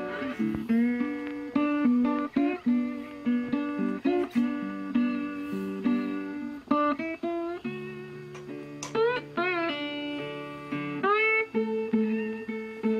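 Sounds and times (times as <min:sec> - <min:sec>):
solo guitar: 0:00.0 - 0:12.9.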